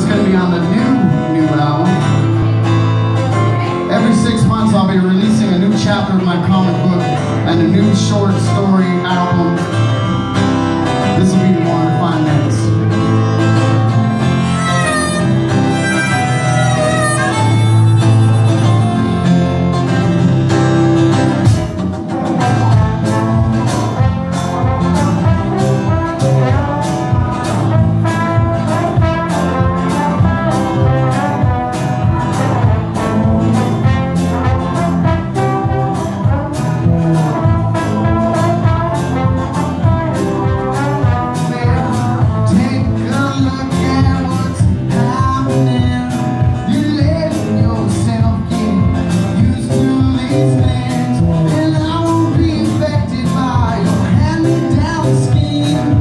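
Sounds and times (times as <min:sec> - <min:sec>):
acoustic and electric guitar: 0:00.0 - 0:56.0
steady drum beat: 0:00.0 - 0:56.0
trombone lead: 0:00.0 - 0:56.0.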